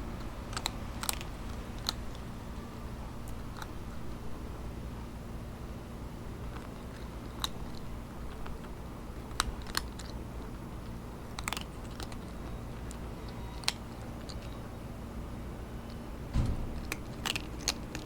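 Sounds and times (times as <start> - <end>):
cat crunching dry kibble: 0.0 - 5.3, 6.1 - 14.7, 15.8 - 18.0
steady low hum: 0.0 - 18.0.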